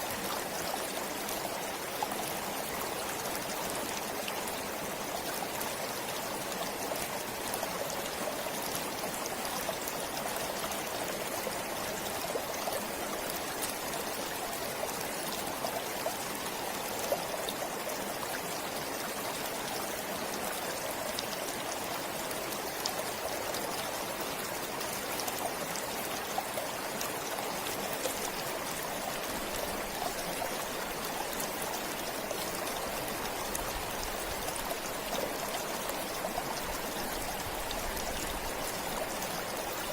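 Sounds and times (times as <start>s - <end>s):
stream rushing: 0.0s - 39.9s
water splashes and trickles: 0.0s - 39.9s.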